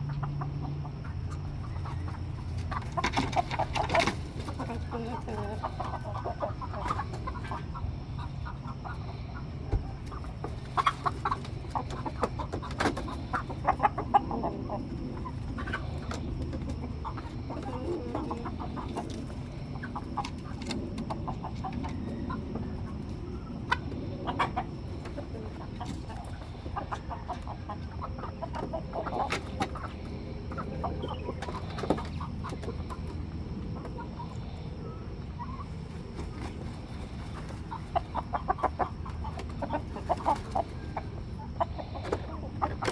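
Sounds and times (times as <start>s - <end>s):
chickens clucking: 0.0s - 42.9s
steady low hum: 0.0s - 42.9s.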